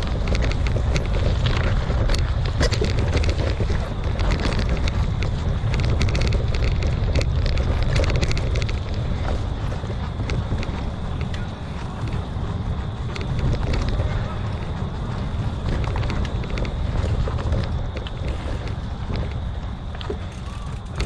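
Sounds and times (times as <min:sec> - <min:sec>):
bike rattling and clicking: 0:00.0 - 0:21.0
tyres rolling over leaves and stones: 0:00.0 - 0:21.0
wind buffeting microphone: 0:00.0 - 0:21.0.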